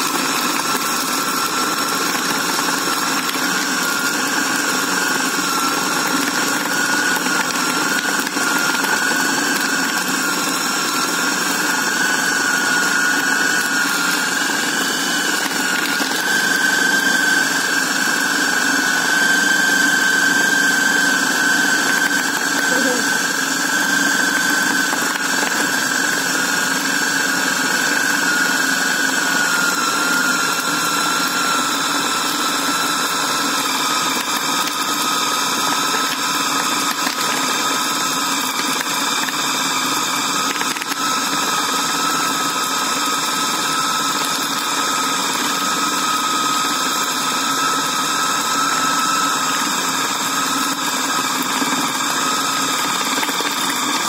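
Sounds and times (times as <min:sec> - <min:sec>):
food chopper motor whining: 0:00.0 - 0:54.0.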